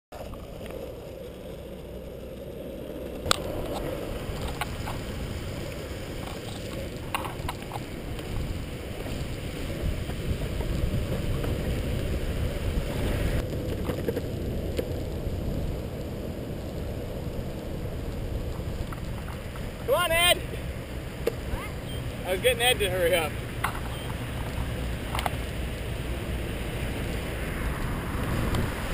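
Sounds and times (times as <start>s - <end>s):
longboard wheels rolling on asphalt: 0.1s - 28.9s.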